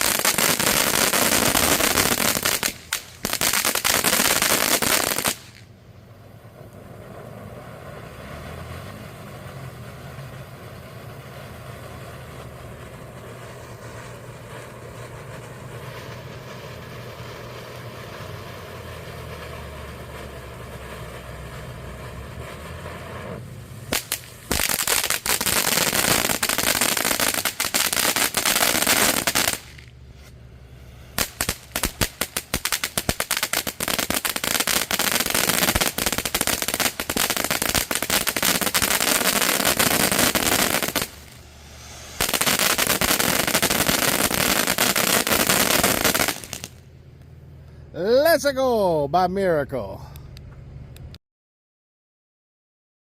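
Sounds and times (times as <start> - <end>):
fireworks fountain crackling: 0.0 - 50.2.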